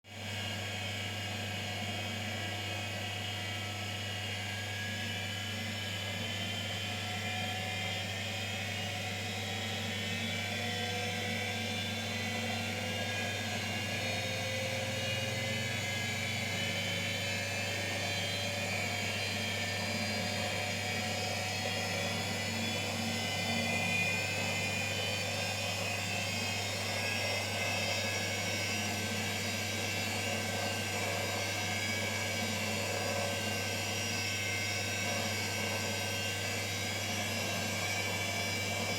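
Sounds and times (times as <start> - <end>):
washing machine motor whine: 0.2 - 38.9.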